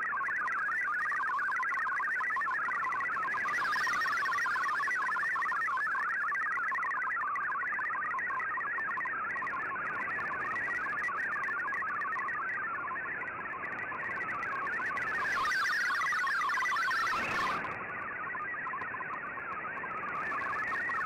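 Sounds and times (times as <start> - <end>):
warbling digital data signal: 0.0 - 21.0.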